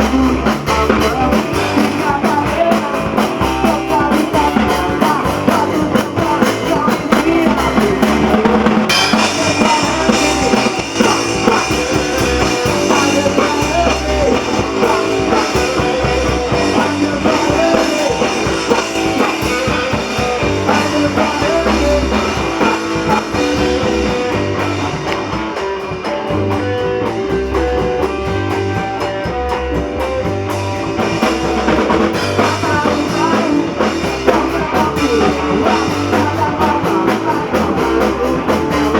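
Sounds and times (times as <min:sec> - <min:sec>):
punk rock band playing: 0:00.0 - 0:38.9.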